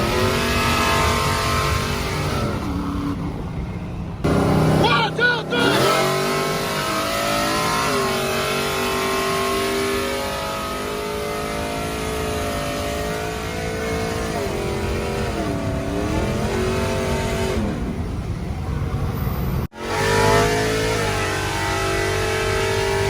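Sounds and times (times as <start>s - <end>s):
vehicle engine at high revs: 0.0s - 23.0s.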